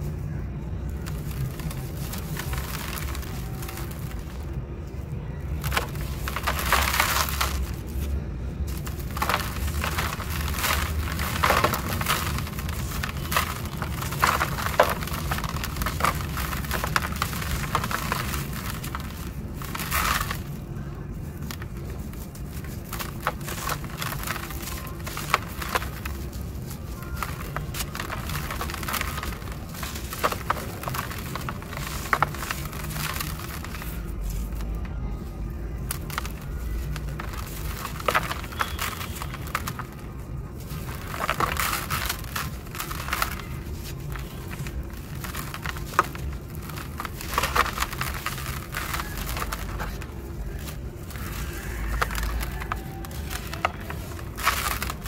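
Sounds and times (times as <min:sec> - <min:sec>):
crackle of crumbling grit: 0:00.0 - 0:55.0
low steady rumble: 0:00.0 - 0:55.0.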